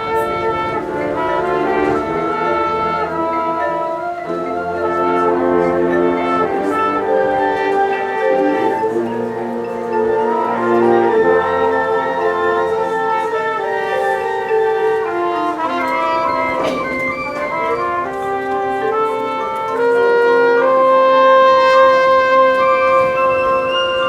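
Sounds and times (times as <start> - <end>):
marching band playing chords: 0.0 - 24.0.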